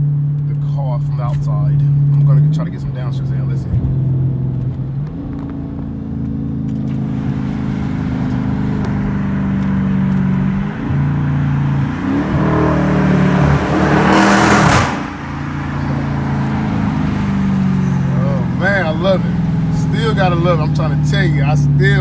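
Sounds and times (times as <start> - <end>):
car engine downshifting: 0.0 - 22.0.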